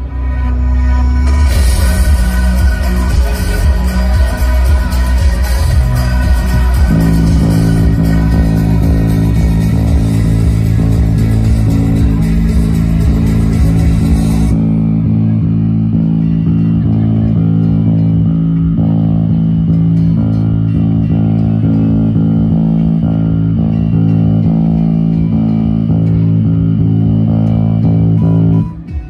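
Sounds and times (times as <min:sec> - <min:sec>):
electric bass guitar low notes: 0:00.0 - 0:29.0.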